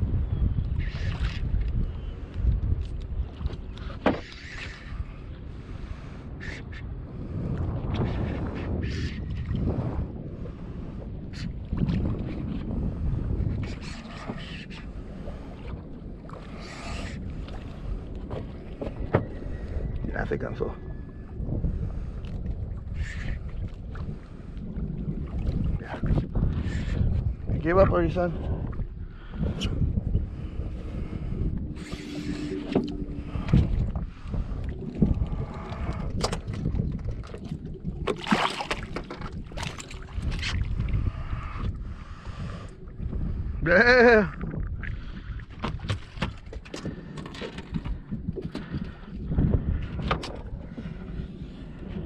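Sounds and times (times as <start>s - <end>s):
water lapping around boat: 0.0s - 52.0s
wind noise on microphone: 0.0s - 52.0s.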